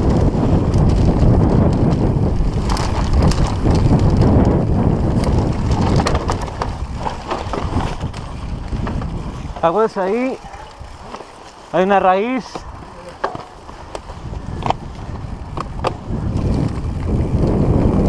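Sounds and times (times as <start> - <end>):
bike rattling over bumps: 0.0 - 18.0
bike tyres rumbling on dirt: 0.0 - 18.0
wind buffeting microphone: 0.0 - 18.0.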